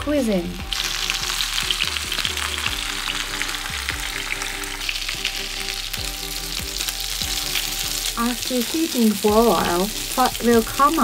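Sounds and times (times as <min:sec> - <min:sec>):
light background music: 0:00.0 - 0:11.0
chicken sizzling in a frying pan: 0:00.4 - 0:11.0.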